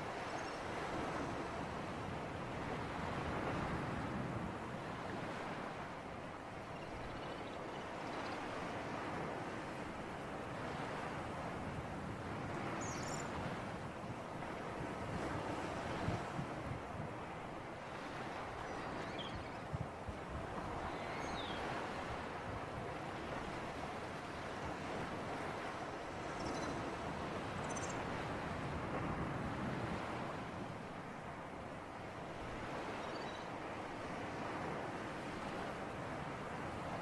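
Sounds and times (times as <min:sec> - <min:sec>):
sea breeze blowing: 0:00.0 - 0:37.0.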